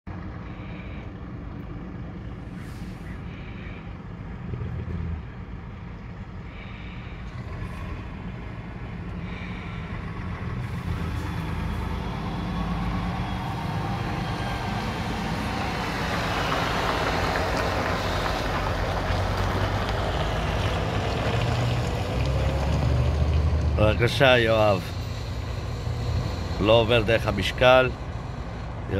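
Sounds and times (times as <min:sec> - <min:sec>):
road noise: 0:00.1 - 0:28.9
truck diesel engine rumble: 0:00.1 - 0:28.9.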